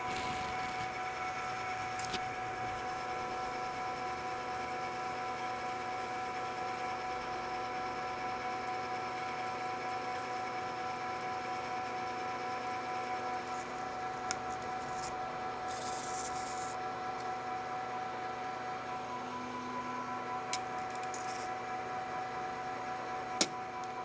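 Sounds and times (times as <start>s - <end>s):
metal lathe machining whine: 0.0s - 24.0s.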